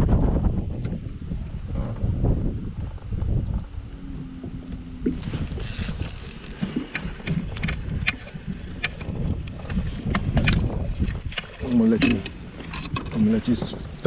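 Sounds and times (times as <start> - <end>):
wind buffeting microphone: 0.0 - 14.0
water lapping at hull: 0.1 - 14.0.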